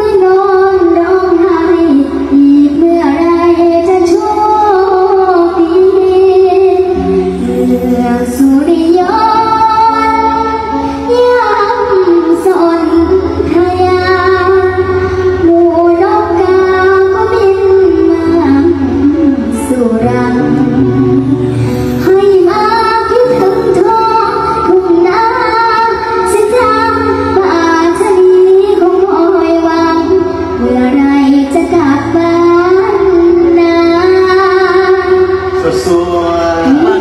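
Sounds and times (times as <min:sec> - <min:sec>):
girl singing into a microphone: 0:00.0 - 0:35.6
backing music: 0:00.0 - 0:37.0.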